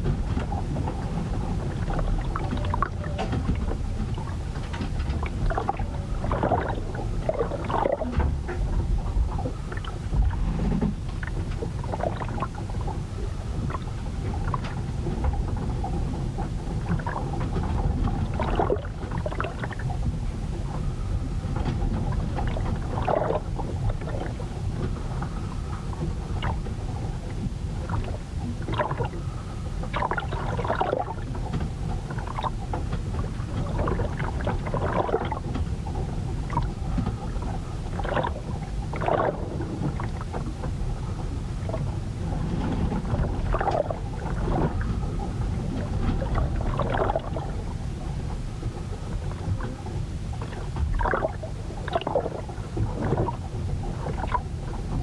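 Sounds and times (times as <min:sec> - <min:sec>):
ship creaks and knocks: 0:00.0 - 0:55.0
wind and water rumble against ship: 0:00.0 - 0:55.0.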